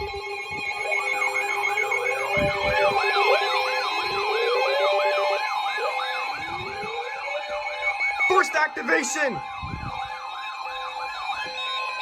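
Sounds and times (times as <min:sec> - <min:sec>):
electronic siren yelping: 0:00.0 - 0:12.0.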